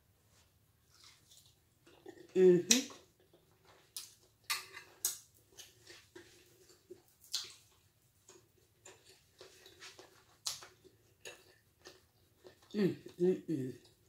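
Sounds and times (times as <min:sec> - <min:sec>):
faint clicks and smacks: 0:00.9 - 0:12.7.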